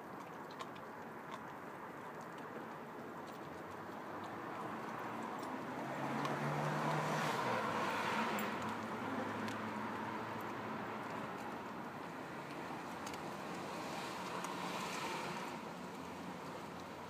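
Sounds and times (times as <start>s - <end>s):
dog chewing bone: 0.0s - 17.0s
vehicle passing: 3.2s - 17.0s.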